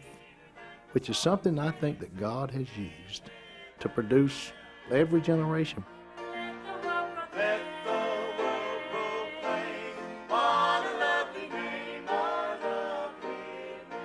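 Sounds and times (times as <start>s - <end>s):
people singing gospel song: 0.0s - 14.0s.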